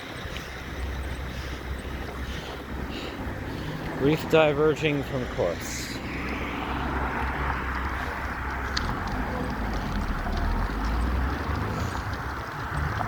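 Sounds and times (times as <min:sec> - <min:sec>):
low rumble: 0:00.0 - 0:13.0
wind rushing over microphone: 0:00.0 - 0:13.0.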